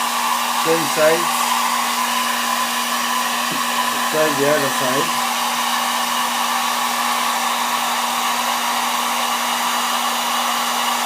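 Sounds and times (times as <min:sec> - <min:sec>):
hot-air blower humming: 0:00.0 - 0:11.0.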